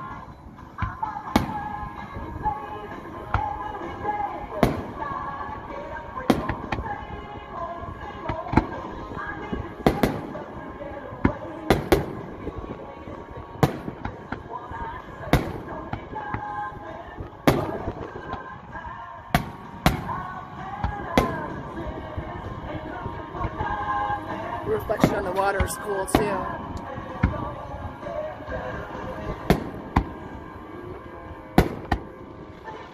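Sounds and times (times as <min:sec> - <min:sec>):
music: 0:00.0 - 0:32.9.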